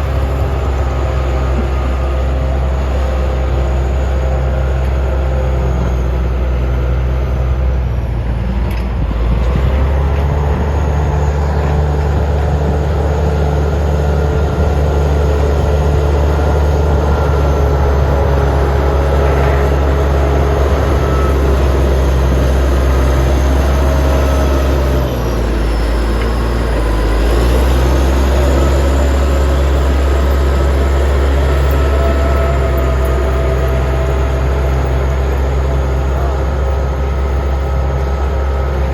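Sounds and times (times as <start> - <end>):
bulldozer diesel engine drone: 0.0 - 38.9.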